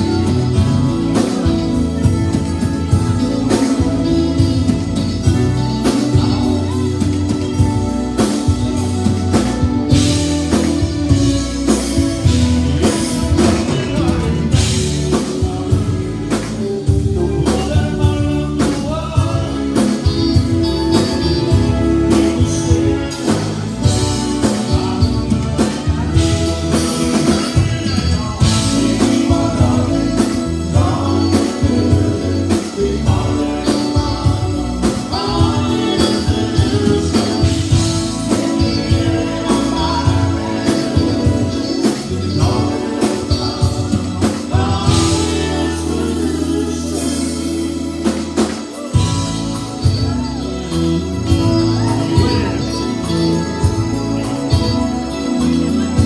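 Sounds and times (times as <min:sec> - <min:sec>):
bass: 0:00.0 - 0:56.0
conjunto band playing: 0:00.0 - 0:56.0
drum kit: 0:00.0 - 0:56.0
electric guitars: 0:00.0 - 0:56.0
person singing lead vocal: 0:00.0 - 0:56.0.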